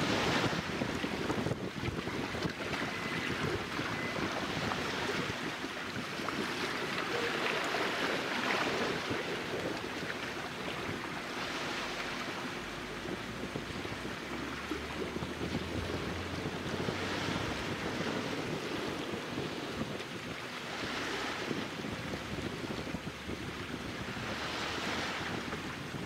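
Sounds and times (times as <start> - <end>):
small waves washing onto shore: 0.0 - 26.0
wind buffeting microphone: 0.0 - 26.0.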